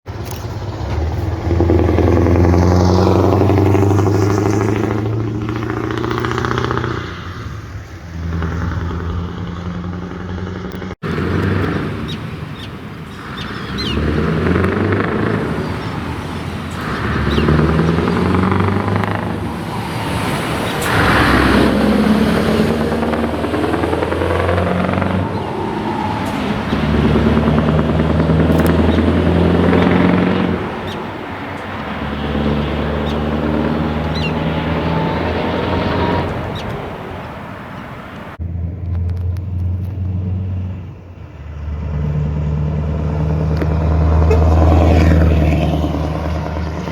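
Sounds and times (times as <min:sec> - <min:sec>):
loud deep truck engines revving: 0:00.0 - 0:46.9.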